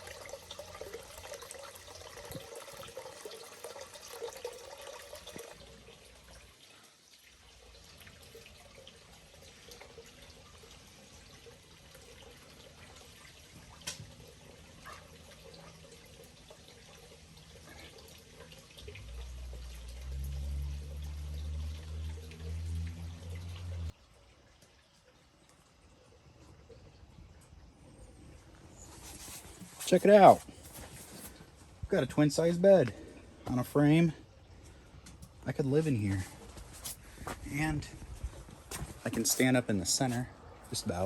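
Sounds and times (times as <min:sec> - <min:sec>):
water trickling in waterfall: 0:00.0 - 0:41.0.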